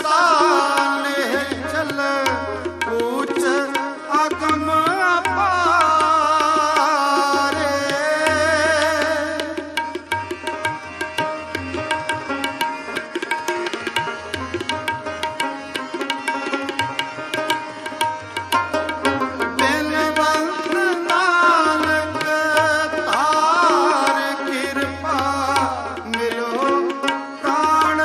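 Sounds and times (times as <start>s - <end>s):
tabla: 0.0s - 28.0s.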